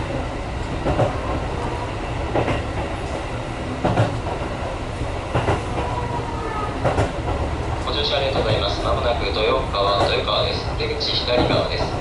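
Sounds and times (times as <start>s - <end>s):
rail joints clacking: 0.0s - 12.0s
train wheels rumbling on rail: 0.0s - 12.0s.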